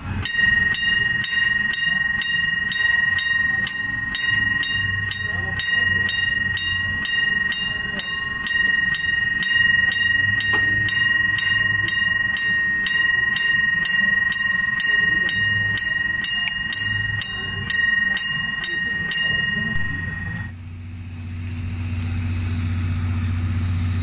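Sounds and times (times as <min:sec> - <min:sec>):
steady high tone: 0:00.0 - 0:24.0
level crossing bell ringing: 0:00.1 - 0:20.5.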